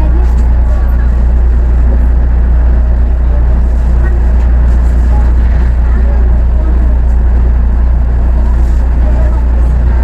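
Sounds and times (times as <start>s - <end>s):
train rumbling on track: 0.0s - 10.0s.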